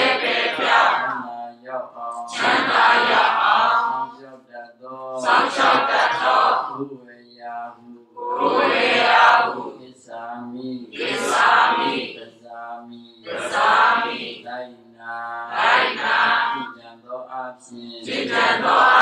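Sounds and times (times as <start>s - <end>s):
congregation chanting in unison: 0.0s - 4.3s, 5.0s - 6.9s, 7.8s - 16.9s, 17.6s - 19.0s.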